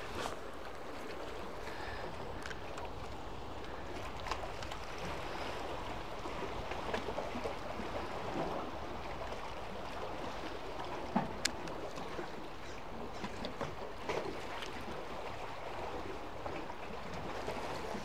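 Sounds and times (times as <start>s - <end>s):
sea water lapping on concrete: 0.0s - 18.0s.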